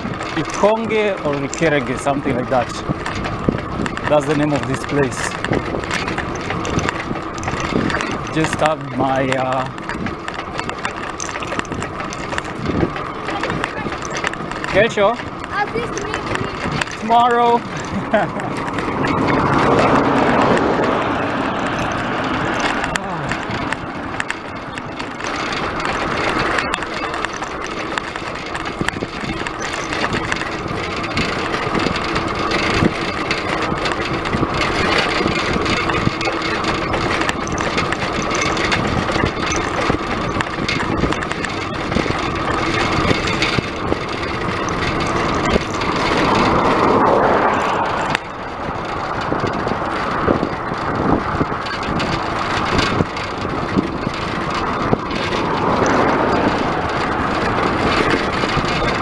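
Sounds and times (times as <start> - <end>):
bicycle road noise: 0.0 - 59.0
rushing wind: 0.0 - 59.0.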